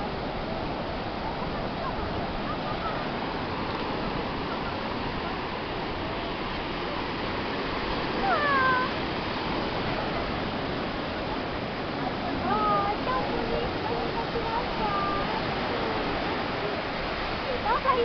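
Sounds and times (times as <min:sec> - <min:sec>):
sea surf: 0:00.0 - 0:18.0
wind: 0:00.0 - 0:18.0.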